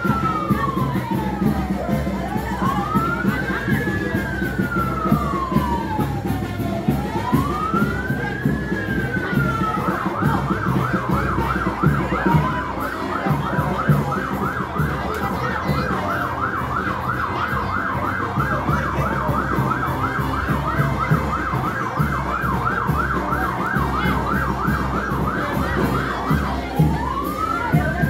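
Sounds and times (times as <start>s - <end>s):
siren yelping: 0.0s - 28.0s
slow siren wail: 0.0s - 28.0s.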